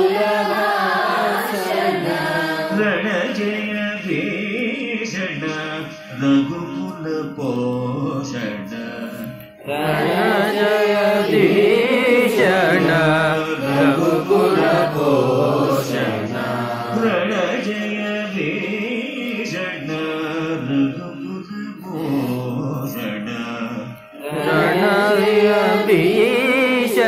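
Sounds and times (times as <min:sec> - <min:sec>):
tanpura drone: 0:00.0 - 0:27.0
man singing: 0:02.7 - 0:27.0.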